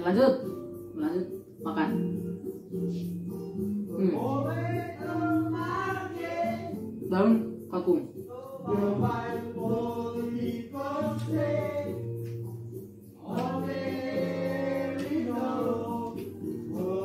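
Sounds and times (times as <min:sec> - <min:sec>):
muffled backing music: 0:00.0 - 0:17.0
muffled karaoke singing: 0:00.0 - 0:17.0.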